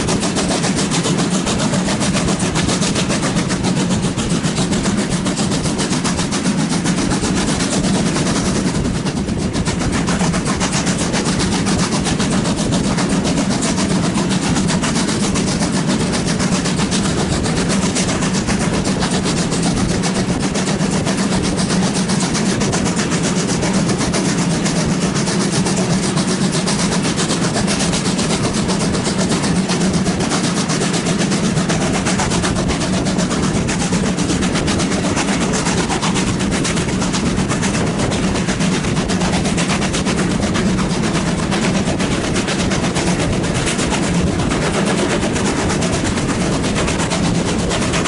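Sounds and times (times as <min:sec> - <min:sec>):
steam locomotive exhaust beating: 0:00.0 - 0:48.0
wheels on rail: 0:00.0 - 0:48.0.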